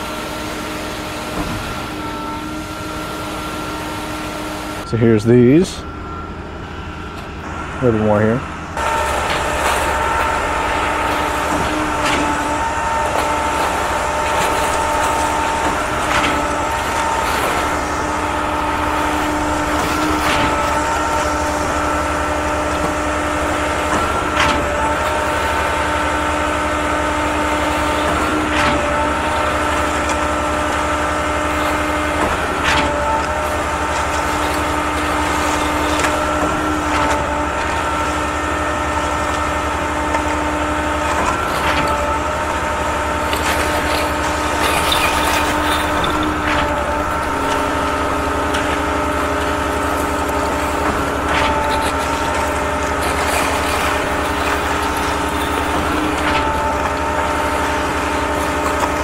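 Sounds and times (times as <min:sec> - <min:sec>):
concrete pump running: 0:00.0 - 0:59.0
pump knocking: 0:08.8 - 0:59.0.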